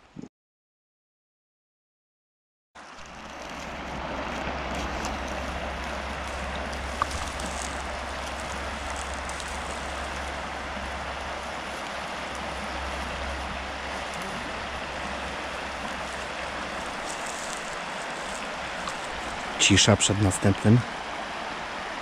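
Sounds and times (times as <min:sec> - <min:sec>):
stream flowing: 0:02.8 - 0:22.0.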